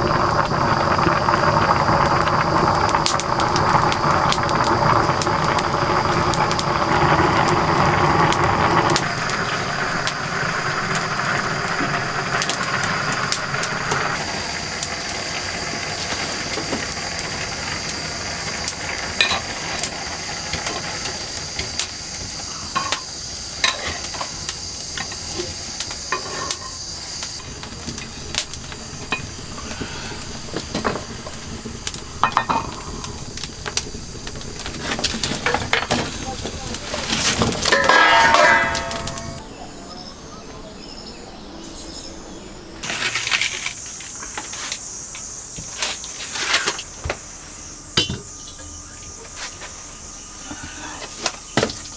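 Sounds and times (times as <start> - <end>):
faint high whine: 0.0 - 51.9
pot boiling over and sizzling: 0.0 - 51.9
wood fire crackling: 0.0 - 51.9.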